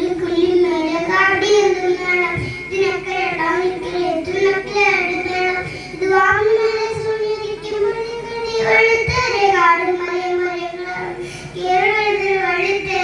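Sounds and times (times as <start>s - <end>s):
child singing in high voice: 0.0s - 13.0s.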